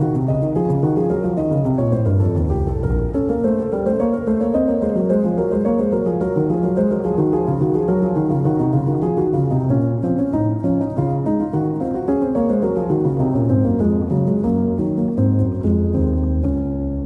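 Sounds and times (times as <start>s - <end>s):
piano background music: 0.0s - 17.0s.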